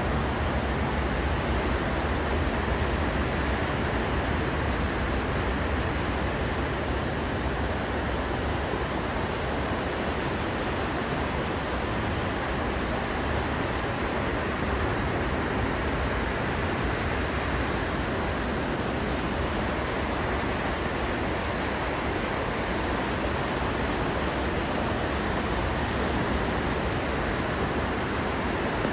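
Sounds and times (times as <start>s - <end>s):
ocean surf: 0.0s - 28.9s.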